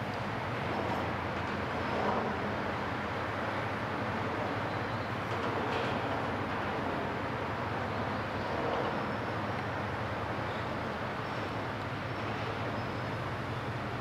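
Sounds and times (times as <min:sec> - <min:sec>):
ship engine low hum: 0:00.0 - 0:14.0.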